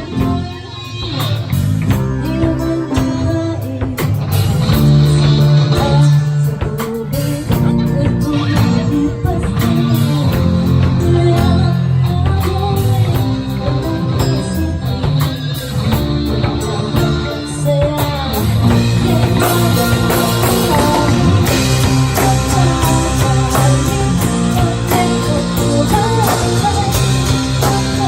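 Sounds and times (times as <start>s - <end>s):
rock music with singer: 0.0s - 28.0s.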